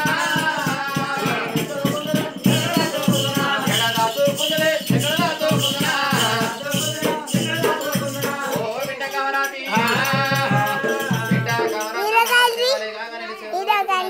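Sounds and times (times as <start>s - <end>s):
jingling bells: 0.0s - 12.8s
person singing: 0.0s - 12.9s.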